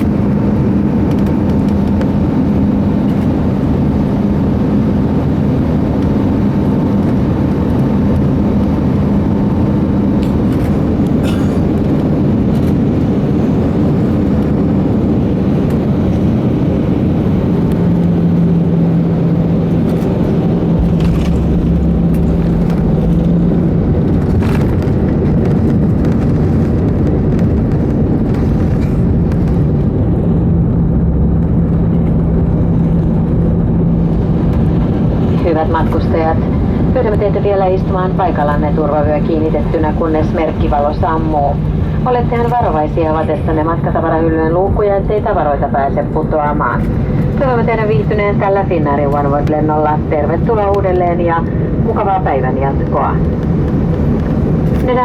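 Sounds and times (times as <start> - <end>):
hum: 0.0 - 55.0
rumble of engines and wheels: 0.0 - 55.0.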